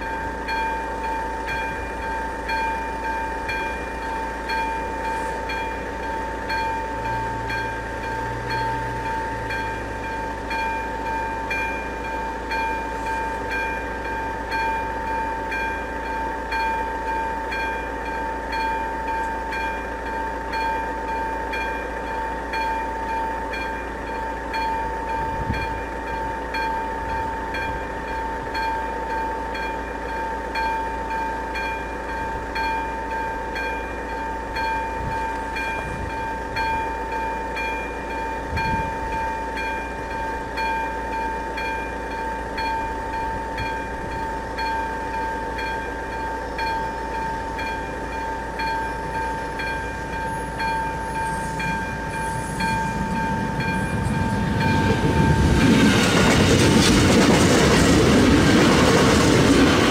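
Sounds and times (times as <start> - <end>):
level crossing warning bell: 0.0 - 56.6
approaching train rumble: 0.0 - 59.9.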